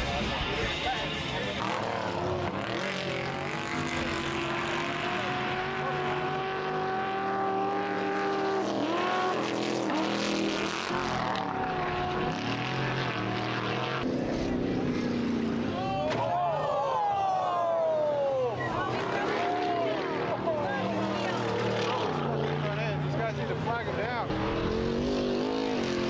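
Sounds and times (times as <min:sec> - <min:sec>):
race car engines at high revs: 0:00.0 - 0:26.0.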